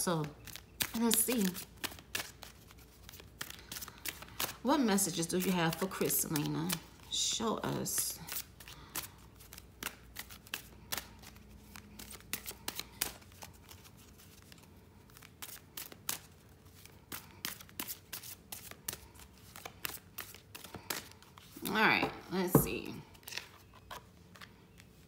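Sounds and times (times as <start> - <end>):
cards being shuffled: 0.2 - 7.2, 7.9 - 25.0.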